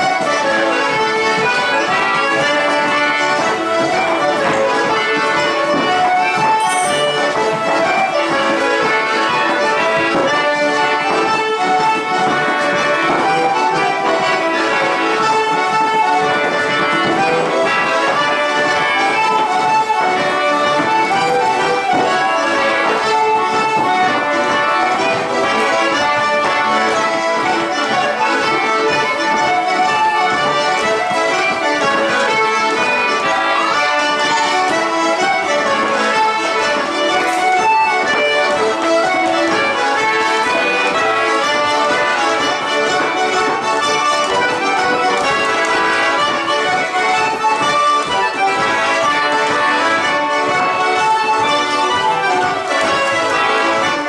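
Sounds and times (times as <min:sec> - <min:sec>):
acoustic folk instruments playing: 0:00.0 - 0:54.0.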